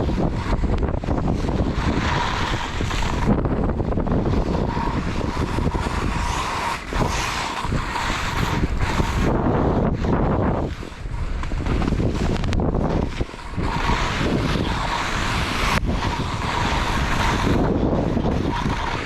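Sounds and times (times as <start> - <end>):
skis running over snow: 0.0 - 19.0
wind buffeting microphone: 0.0 - 19.0.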